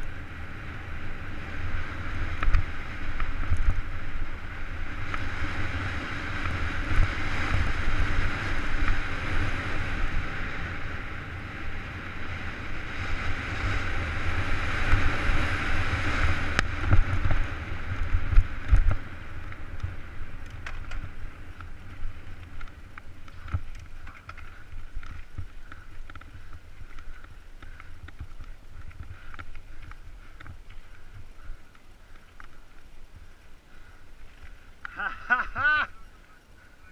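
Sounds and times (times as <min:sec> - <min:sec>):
bike clicks and rattles: 0:00.0 - 0:36.9
bike tyres rolling over dirt: 0:00.0 - 0:36.9
wind buffeting microphone: 0:00.0 - 0:36.9.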